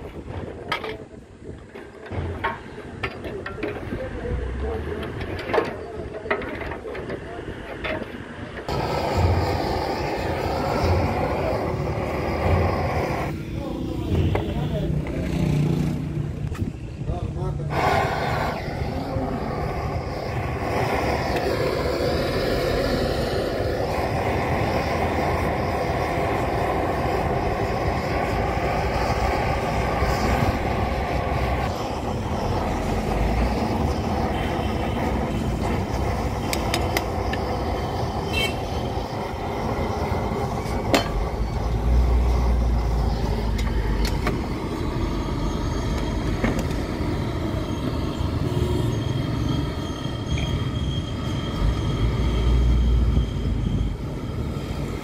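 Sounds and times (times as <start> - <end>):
blowtorch running: 8.5 - 55.0.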